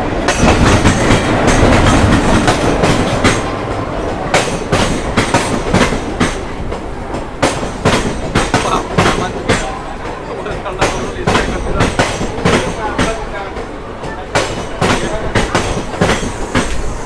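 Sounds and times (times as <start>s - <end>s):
train rumble: 0.0s - 17.0s
train wheels clacking on rail joints: 0.0s - 17.0s.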